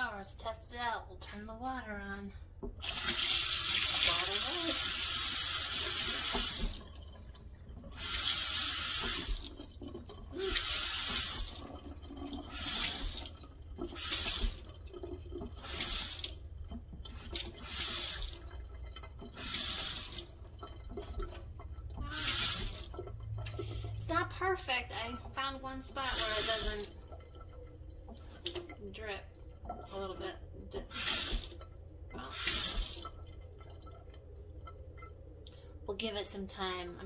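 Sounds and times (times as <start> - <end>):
faucet water running into sink: 2.6 - 35.8.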